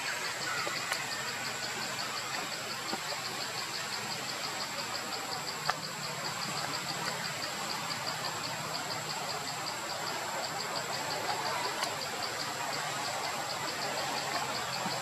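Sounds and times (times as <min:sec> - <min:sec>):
constant hiss: 0:00.0 - 0:15.0
insect chirping: 0:00.0 - 0:15.0.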